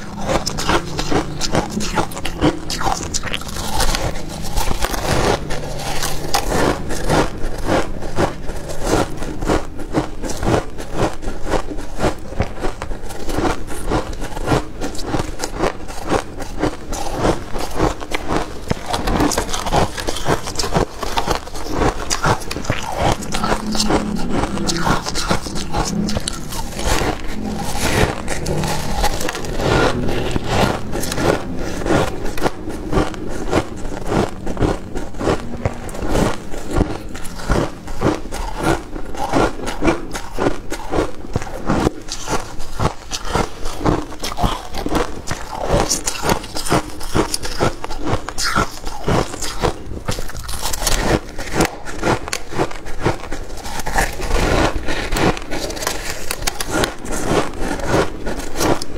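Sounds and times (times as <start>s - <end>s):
frost being chewed: 0.0s - 58.9s.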